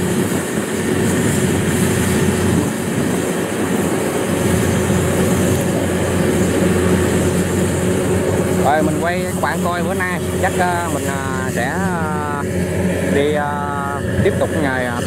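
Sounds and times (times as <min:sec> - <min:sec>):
combine harvester engine and threshing: 0:00.0 - 0:15.0
thin steady whine: 0:00.0 - 0:15.0.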